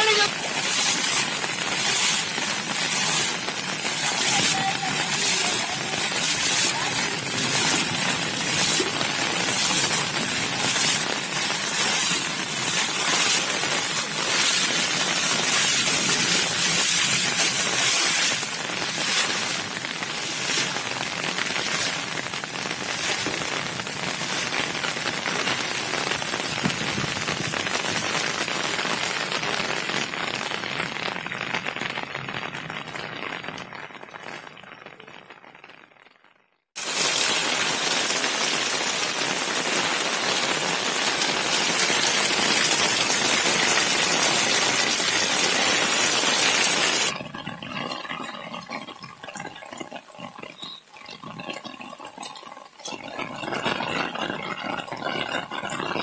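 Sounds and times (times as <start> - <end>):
water splashes from buckets: 0.0 - 30.8, 36.8 - 56.0
heavy rain on standing water: 0.0 - 35.7, 36.8 - 56.0.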